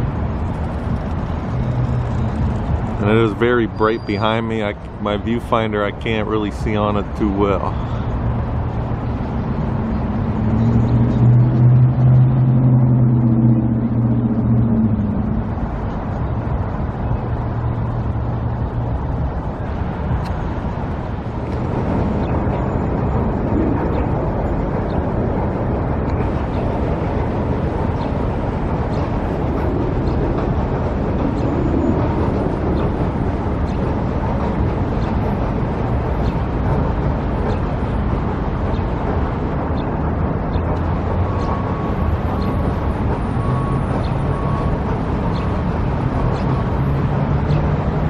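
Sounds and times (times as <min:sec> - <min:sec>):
heavy vehicle engine humming: 0:00.0 - 0:48.0
passing cars: 0:00.0 - 0:48.0.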